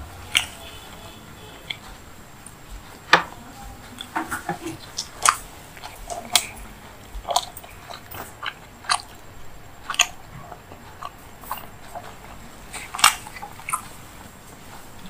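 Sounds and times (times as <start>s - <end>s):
person chewing: 0.2s - 3.1s, 3.8s - 15.0s.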